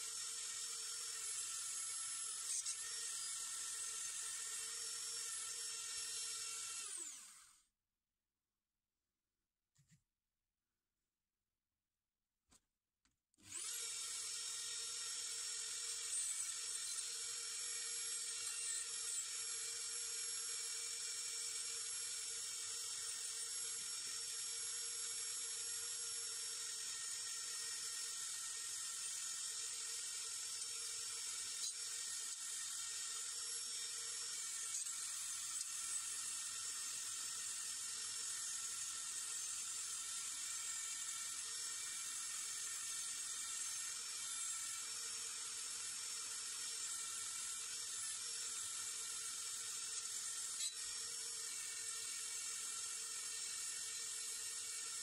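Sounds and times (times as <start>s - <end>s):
power tool high whine: 0.0s - 7.6s, 13.4s - 55.0s.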